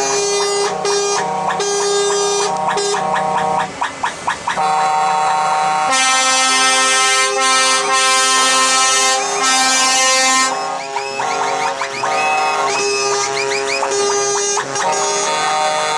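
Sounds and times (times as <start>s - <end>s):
truck air horns: 0.0s - 15.9s.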